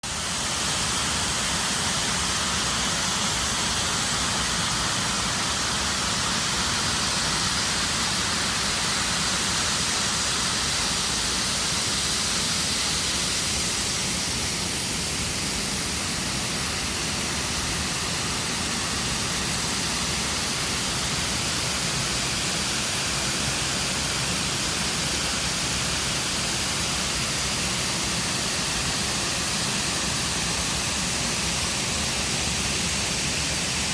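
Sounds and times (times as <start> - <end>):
waterfall pouring into lake: 6.4 - 33.9.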